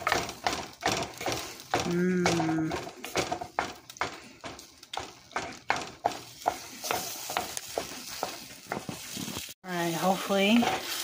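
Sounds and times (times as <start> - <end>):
utensil mashing in baking dish: 0.0 - 11.0.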